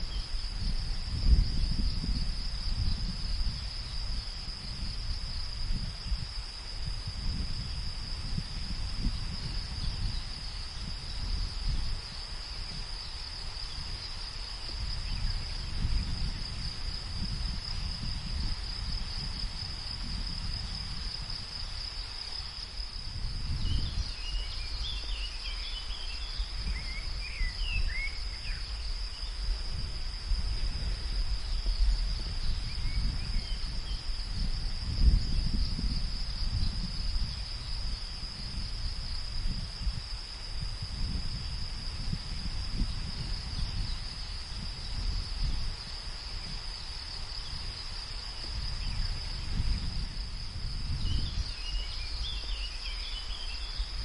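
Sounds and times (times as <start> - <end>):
high-pitched insect chorus: 0.0 - 54.0
low wind rumble: 0.0 - 54.0.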